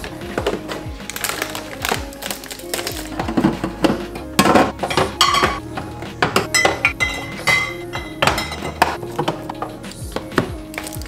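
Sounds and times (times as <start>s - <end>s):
plastic bins clinking and knocking: 0.0s - 11.0s
soft background music: 0.0s - 11.0s.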